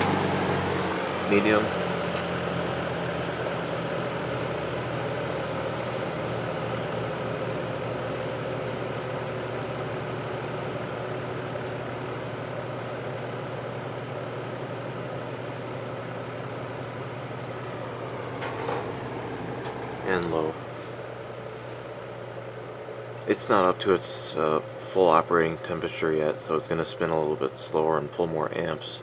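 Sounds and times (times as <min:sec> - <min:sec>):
box fan humming: 0:00.0 - 0:29.0.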